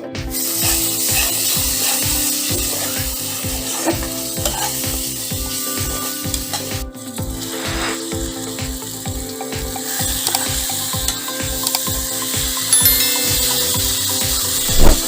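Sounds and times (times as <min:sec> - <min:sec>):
background music with low beat: 0:00.0 - 0:15.0
food sizzling in a pan: 0:00.3 - 0:15.0.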